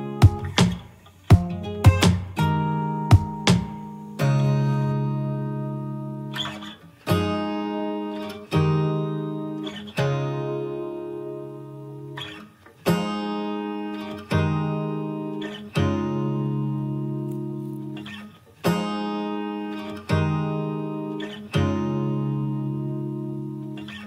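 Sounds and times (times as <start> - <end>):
acoustic guitar strumming slow chords: 0.0 - 24.0.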